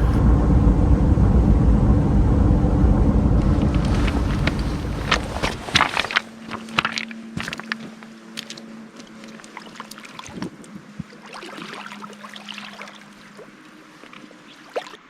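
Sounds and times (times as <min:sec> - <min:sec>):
faint steady hum: 0:00.0 - 0:14.8
creek water running: 0:00.0 - 0:15.0.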